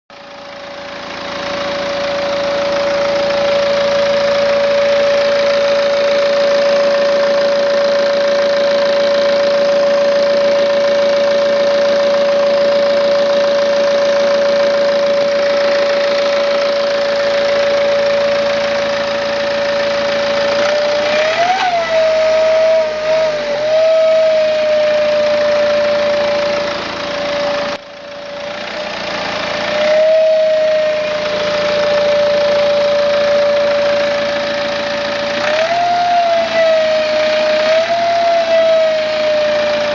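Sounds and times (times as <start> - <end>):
diesel engine running: 0.1 - 39.9
loud steady whine: 0.2 - 39.9.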